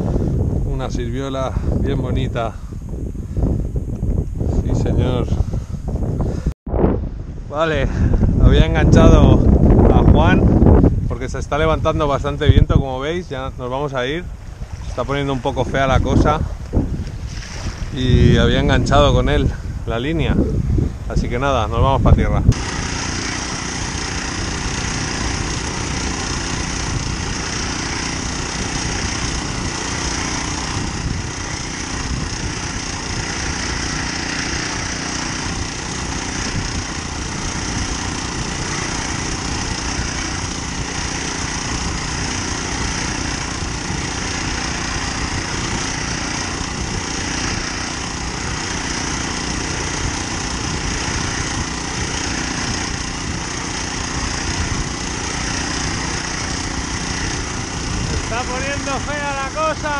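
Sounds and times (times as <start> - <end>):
small outboard motor running: 7.6 - 21.4, 22.1 - 59.9.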